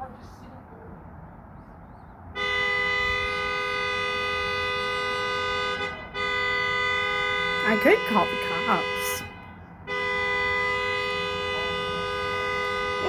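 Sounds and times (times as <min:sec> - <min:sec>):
car horn two-note blast: 0:02.4 - 0:13.0.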